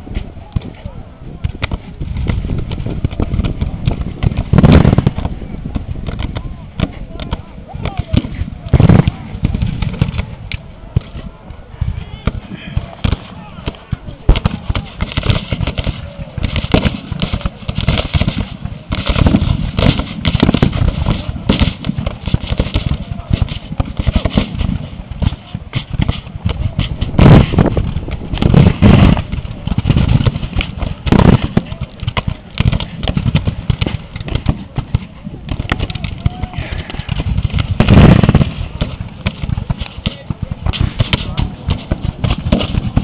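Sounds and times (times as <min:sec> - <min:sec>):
low rumble: 0:00.0 - 0:43.0
musket fire crackling: 0:00.0 - 0:43.0.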